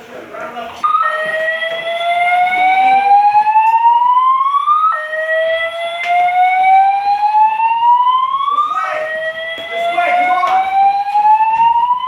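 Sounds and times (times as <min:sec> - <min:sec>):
fire alarm whoop tone: 0:00.8 - 0:12.0.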